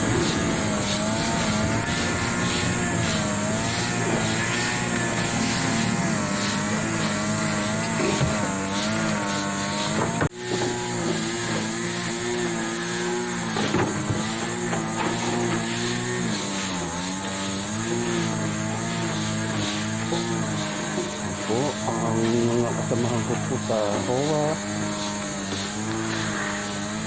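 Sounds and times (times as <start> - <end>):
vehicle engine running while moving: 0.0 - 27.0.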